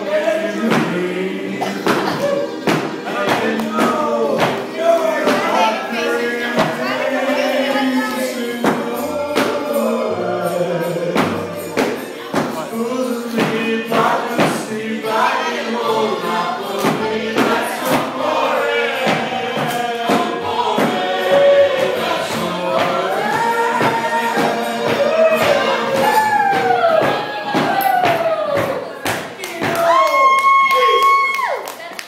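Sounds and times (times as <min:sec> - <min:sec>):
dance music with singing: 0:00.0 - 0:29.9.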